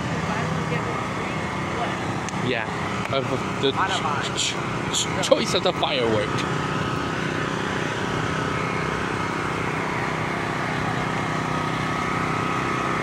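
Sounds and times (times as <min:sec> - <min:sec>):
engine droning: 0:00.0 - 0:13.0
faint high whine: 0:00.0 - 0:13.0.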